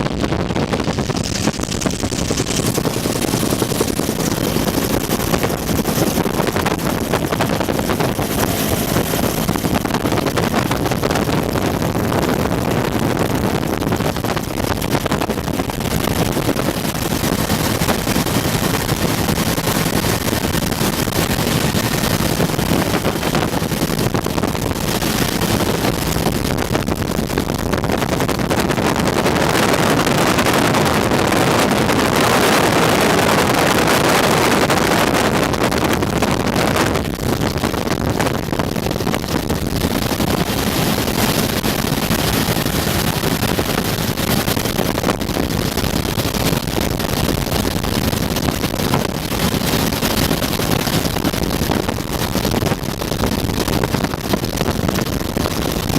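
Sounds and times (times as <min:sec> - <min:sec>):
wind rushing across microphone: 0:00.0 - 0:55.9
helicopter rotor and turbine din: 0:00.7 - 0:55.9.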